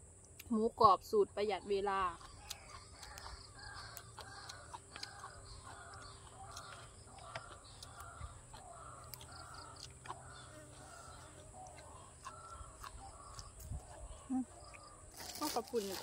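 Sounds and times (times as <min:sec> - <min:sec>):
faint bird calls: 0:01.6 - 0:16.0.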